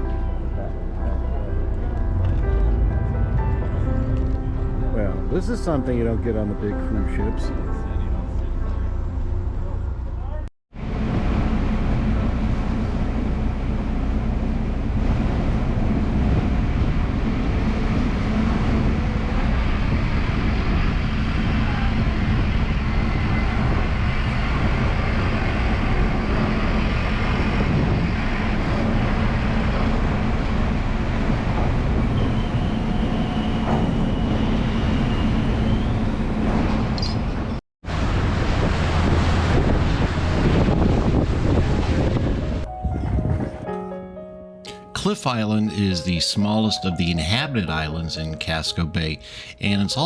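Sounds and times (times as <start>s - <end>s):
ferry engine droning: 0.0s - 43.9s.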